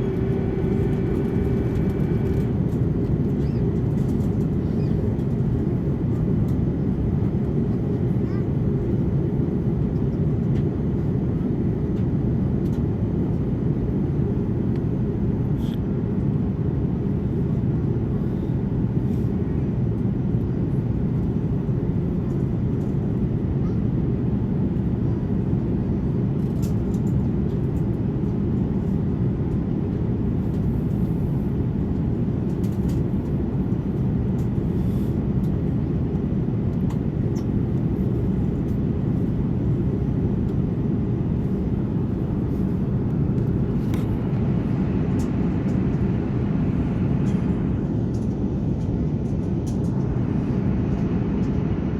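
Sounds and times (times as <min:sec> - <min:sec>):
airplane cabin roar: 0:00.0 - 0:51.9.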